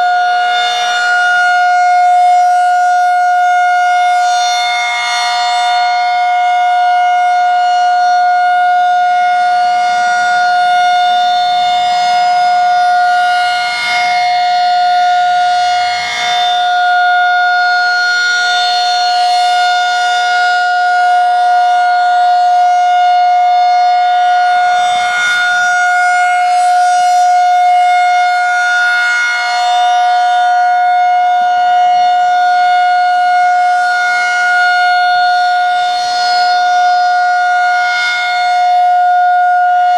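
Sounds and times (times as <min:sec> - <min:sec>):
outdoor warning siren wailing: 0:00.0 - 0:39.9.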